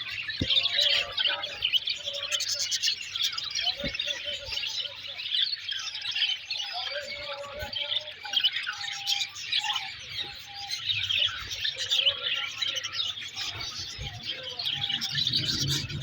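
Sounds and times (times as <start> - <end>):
low held bird calls: 0.0 - 16.0
small birds chirping: 0.0 - 16.0.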